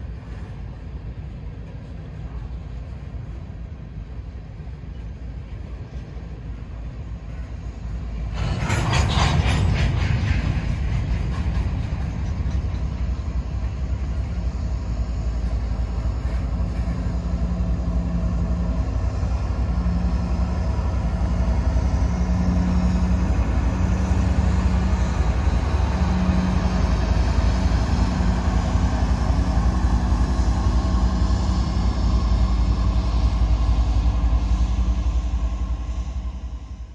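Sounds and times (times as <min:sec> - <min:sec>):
diesel locomotive engine drone: 0:00.0 - 0:36.9
freight train rumble and wheel clatter: 0:00.0 - 0:36.9.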